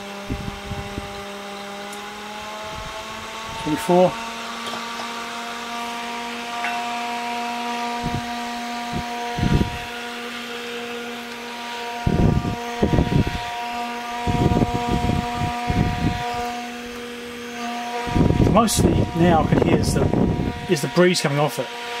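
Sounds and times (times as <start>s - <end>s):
cooling fan humming: 0.0s - 22.0s.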